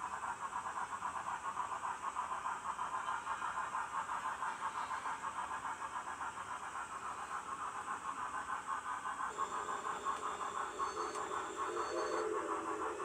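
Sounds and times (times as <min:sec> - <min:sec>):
steam locomotive chuffing: 0:00.0 - 0:13.0.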